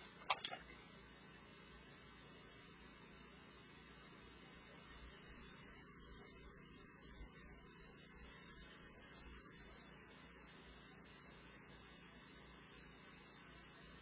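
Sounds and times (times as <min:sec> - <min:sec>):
high insect buzz: 0:00.0 - 0:14.0.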